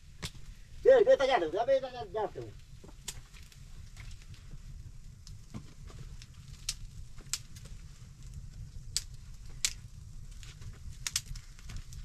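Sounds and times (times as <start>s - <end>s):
fire pops: 0.0s - 12.0s
steady low rumble: 0.0s - 12.0s
wood fire crackling: 0.0s - 12.0s.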